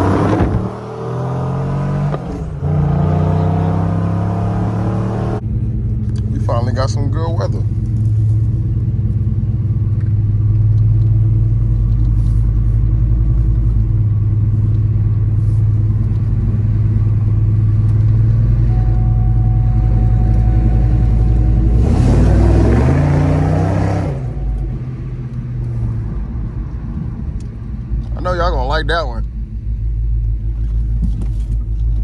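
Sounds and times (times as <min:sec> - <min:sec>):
car engine drone and revving: 0:00.0 - 0:32.0.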